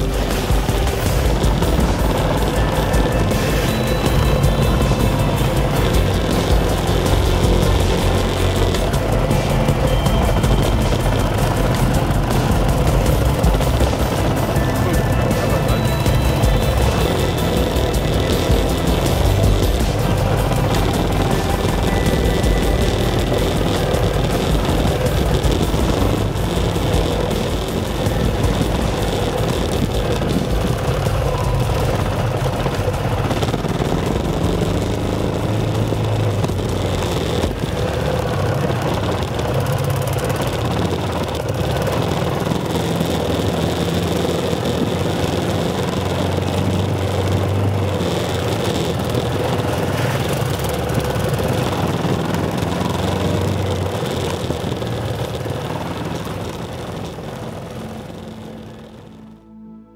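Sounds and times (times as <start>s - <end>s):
motorcycle engine running: 0.0s - 59.9s
steady rushing noise: 0.0s - 59.9s.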